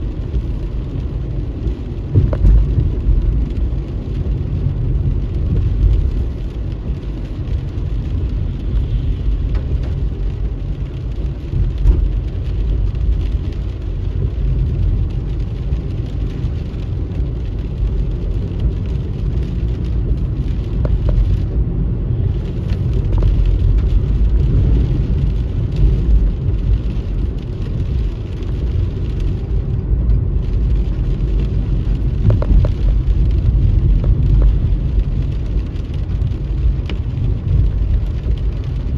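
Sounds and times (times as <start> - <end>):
car engine and road rumble: 0.0 - 38.9
rain and wet tyres hissing: 0.0 - 38.9.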